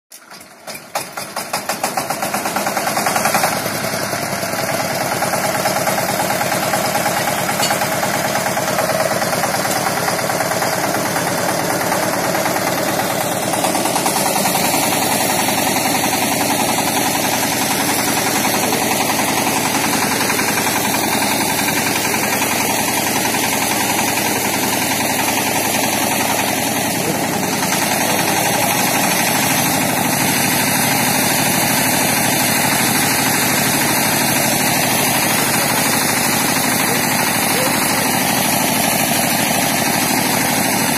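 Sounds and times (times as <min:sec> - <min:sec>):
diesel engine running: 0:00.3 - 0:40.9.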